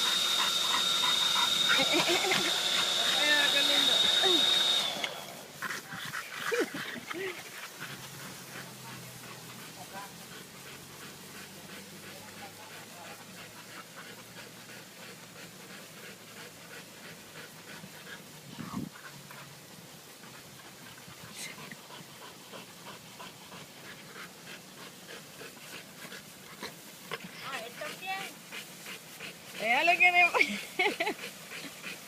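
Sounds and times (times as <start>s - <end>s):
dog panting: 0.0s - 32.0s.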